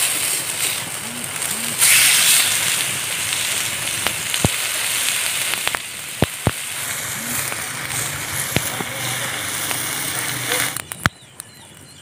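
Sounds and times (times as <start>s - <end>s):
chicken sizzling on hot stone: 0.0s - 11.1s
sharp pops: 0.0s - 11.8s.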